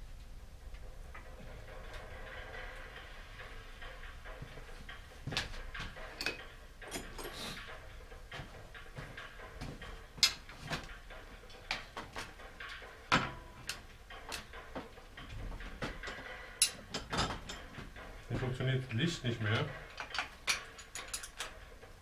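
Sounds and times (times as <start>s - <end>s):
tools clicking and knocking: 0.8s - 22.0s.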